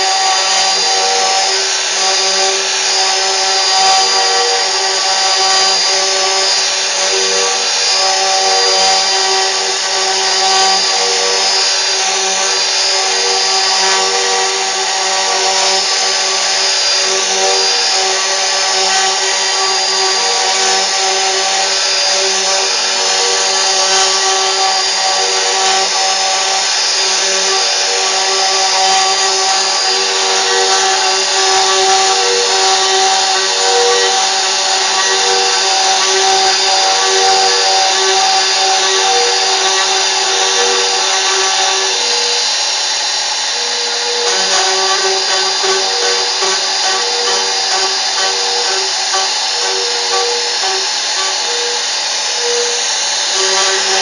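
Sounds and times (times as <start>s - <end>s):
cnc machine whining: 0.0s - 54.0s
hiss: 0.0s - 54.0s.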